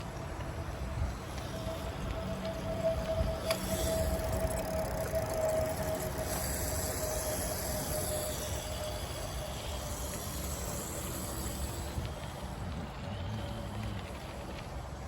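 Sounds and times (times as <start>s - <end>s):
wind and tyre noise: 0.0s - 15.0s.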